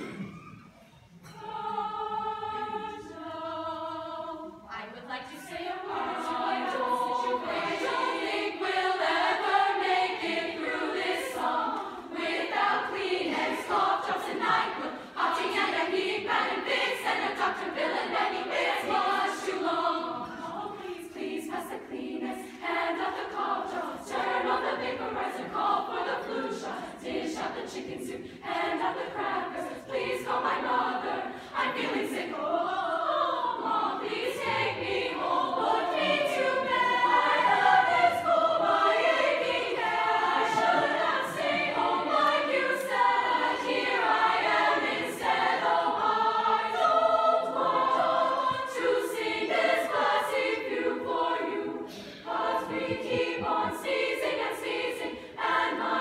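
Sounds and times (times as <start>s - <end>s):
girls' choir singing: 1.2s - 56.0s.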